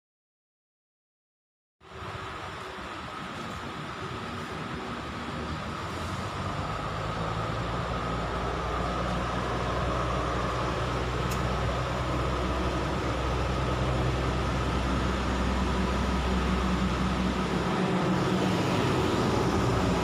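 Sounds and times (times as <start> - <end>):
engine droning with hiss: 1.8 - 20.0.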